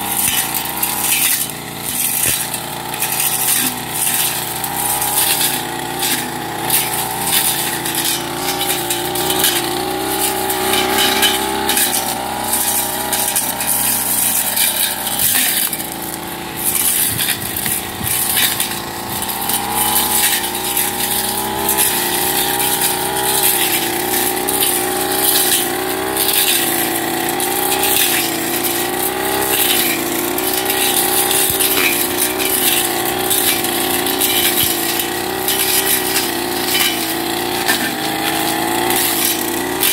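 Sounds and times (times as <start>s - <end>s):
blade cutting weeds rattling: 0.0s - 39.9s
brush cutter engine running: 0.0s - 39.9s.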